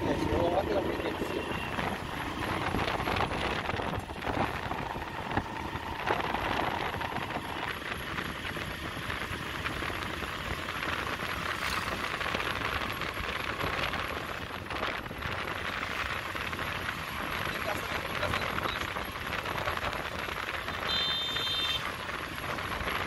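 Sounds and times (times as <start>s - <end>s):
distant road traffic: 0.0s - 23.0s.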